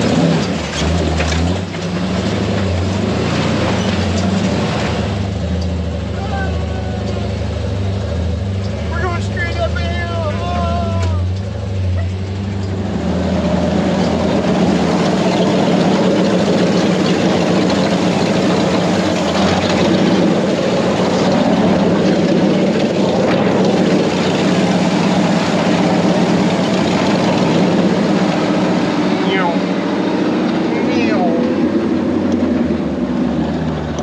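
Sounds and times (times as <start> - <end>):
tires on sandy dirt: 0.0 - 34.0
truck engine running: 0.0 - 34.0.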